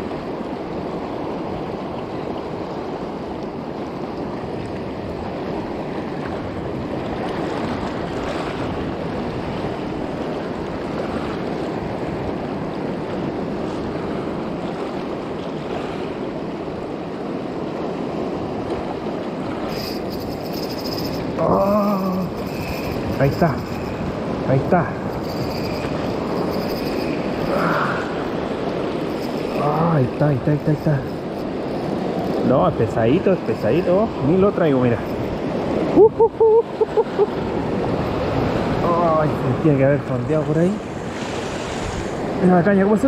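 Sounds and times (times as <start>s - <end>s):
surf washing over rocks: 0.0s - 43.0s.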